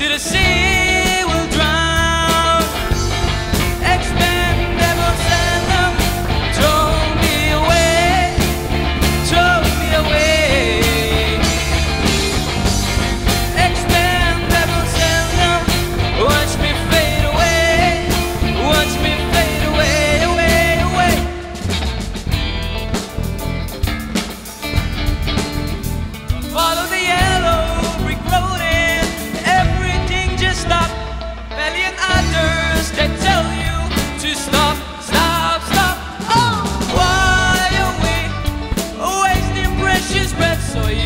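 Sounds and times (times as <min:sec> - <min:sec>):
bass guitar: 0:00.0 - 0:41.0
drums: 0:00.0 - 0:41.0
electric guitar lead line: 0:00.0 - 0:41.0.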